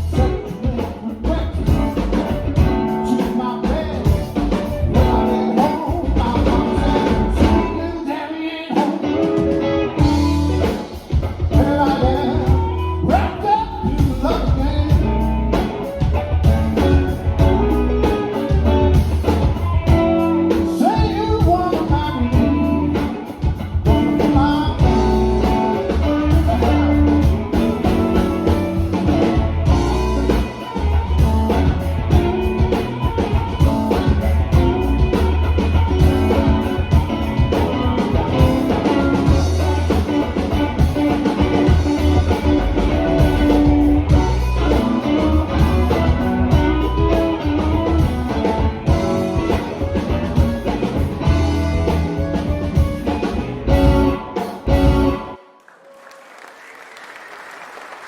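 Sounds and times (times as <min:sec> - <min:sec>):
live blues band playing: 0:00.0 - 0:55.4
electric guitar: 0:00.0 - 0:55.7.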